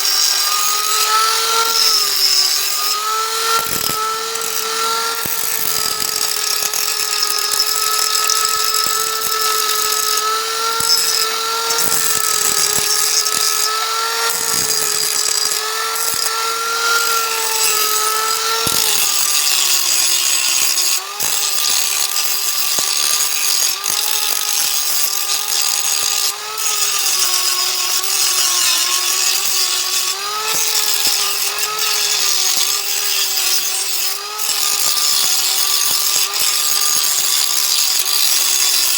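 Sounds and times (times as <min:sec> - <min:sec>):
power tool motor whine: 0:00.0 - 0:38.9.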